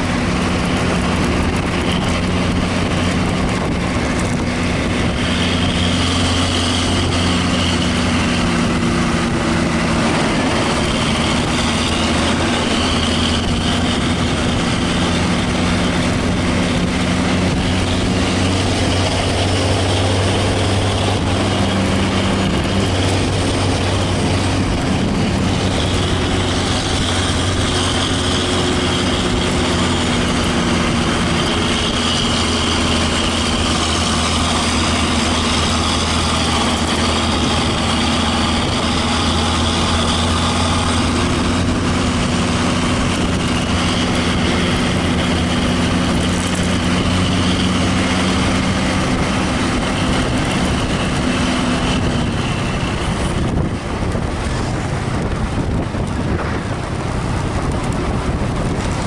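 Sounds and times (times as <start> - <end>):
bus diesel engine drone: 0.0 - 59.0.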